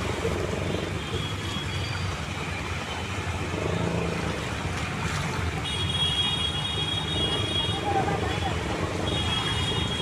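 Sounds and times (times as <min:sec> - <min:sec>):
vehicle driving through floodwater: 0:00.0 - 0:10.0.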